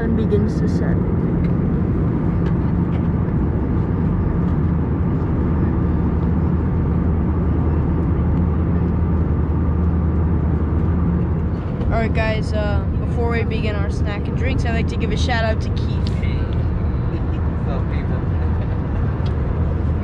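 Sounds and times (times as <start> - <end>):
airplane cabin engine drone: 0.0 - 20.0
constant low hum: 0.0 - 20.0.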